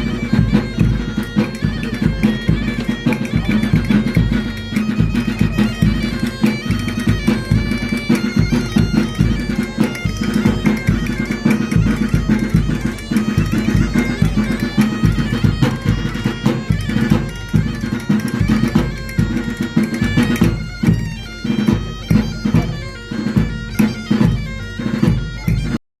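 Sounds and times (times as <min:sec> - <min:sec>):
bagpipe tune over drone: 0:00.0 - 0:25.8
drum beat: 0:00.0 - 0:25.8.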